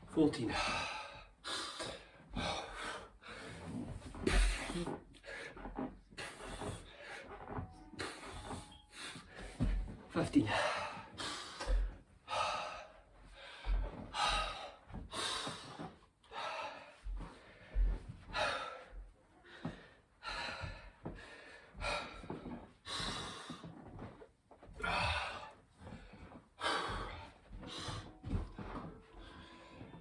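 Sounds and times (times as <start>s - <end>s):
man breathing hard: 0.5s - 5.6s, 8.0s - 23.7s, 24.8s - 30.0s.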